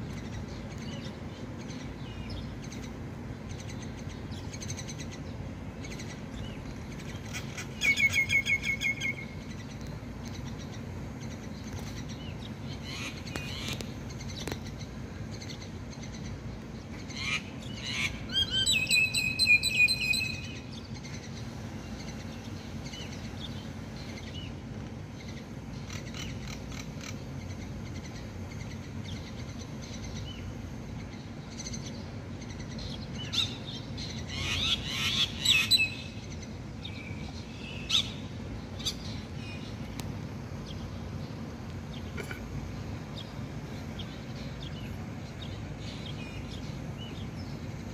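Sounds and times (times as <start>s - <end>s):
low background rumble: 0.0s - 47.9s
starlings calling: 0.0s - 47.9s.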